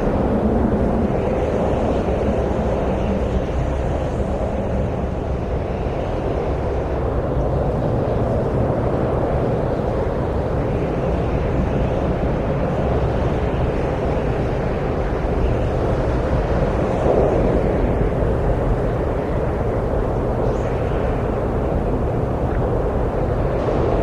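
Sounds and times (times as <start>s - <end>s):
wind rushing: 0.0s - 24.0s.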